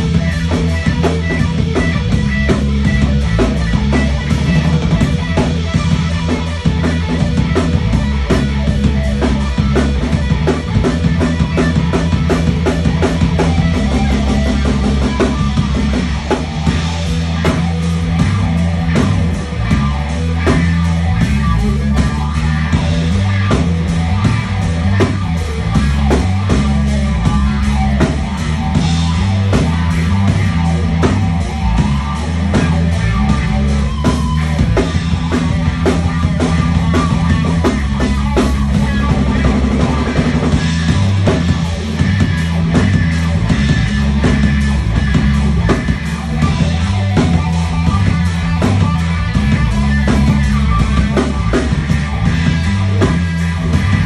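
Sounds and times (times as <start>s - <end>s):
distorted electric guitar: 0.0s - 54.0s
drum kit beat: 0.0s - 54.0s
low bass line: 0.0s - 54.0s.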